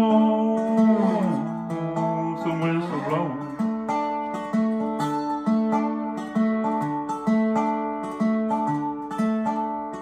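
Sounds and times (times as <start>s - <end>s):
guitar playing: 0.0s - 10.0s.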